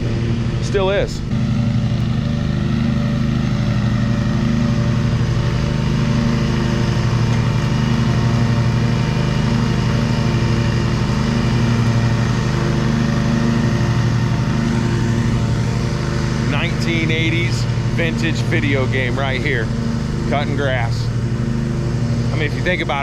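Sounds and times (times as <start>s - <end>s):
riding lawn mower engine running: 0.0s - 23.0s.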